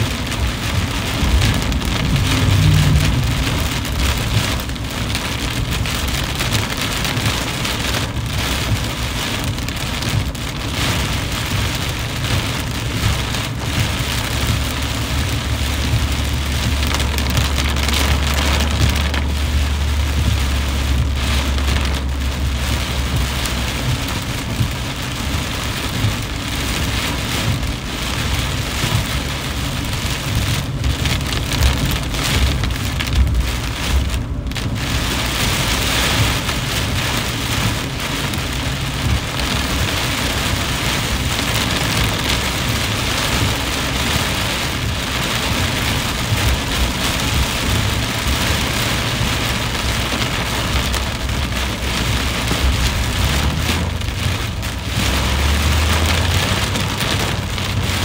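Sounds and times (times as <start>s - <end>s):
car driving on wet road: 0.0s - 58.0s
heavy rain on car roof: 0.0s - 58.0s.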